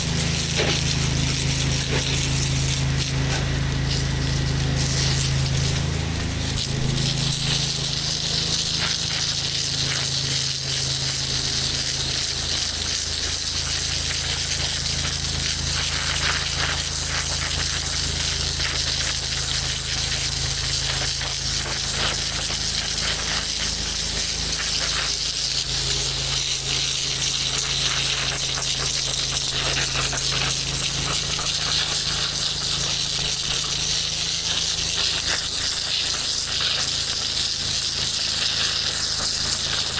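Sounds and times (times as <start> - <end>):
high-pressure water spray hiss: 0.0 - 39.9
pressure washer engine running: 0.0 - 39.9.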